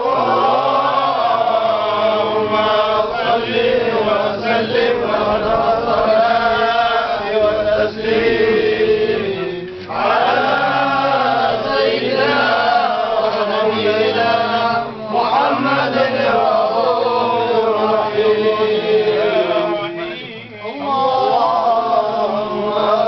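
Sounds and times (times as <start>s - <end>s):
men chanting: 0.0s - 23.0s.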